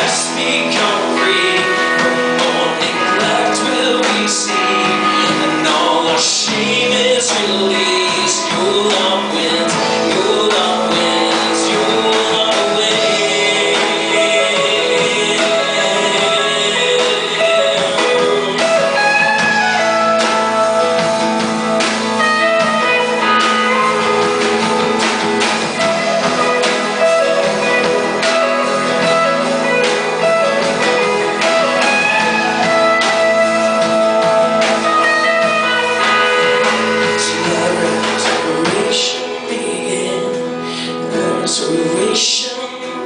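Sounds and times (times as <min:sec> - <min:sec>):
lead guitar: 0:00.0 - 0:43.0
live band playing worship music: 0:00.0 - 0:43.0.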